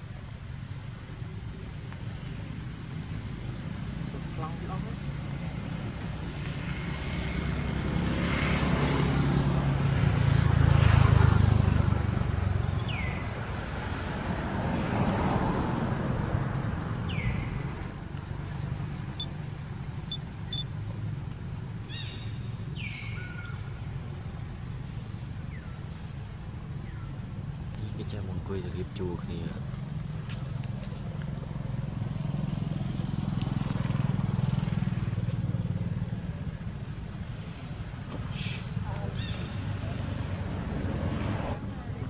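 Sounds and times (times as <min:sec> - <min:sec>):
motor vehicle passing: 0:01.3 - 0:42.0.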